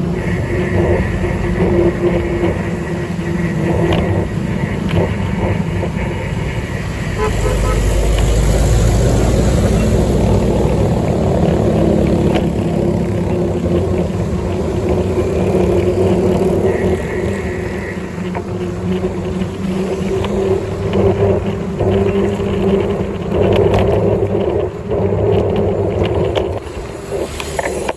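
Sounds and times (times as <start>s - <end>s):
vehicle engine running: 0.0s - 27.9s
wind rumbling on microphone: 0.0s - 27.9s.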